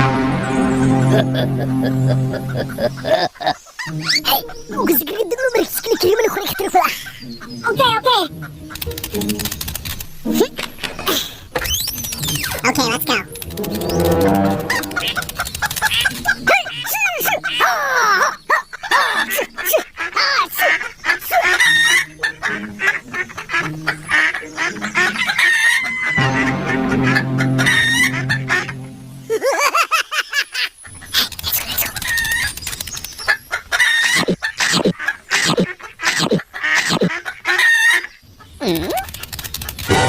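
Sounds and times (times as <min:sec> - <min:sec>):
chickens clucking: 0:01.8 - 0:40.0.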